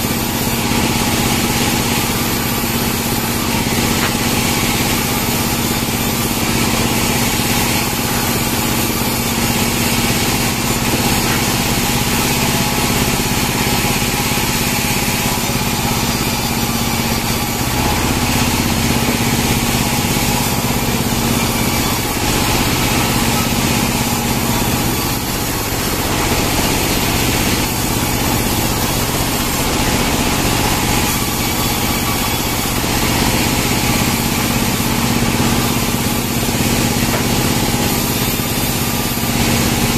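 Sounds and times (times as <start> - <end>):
saw blade hissing through wood: 0.0 - 39.9
sawmill engine drone: 0.0 - 39.9.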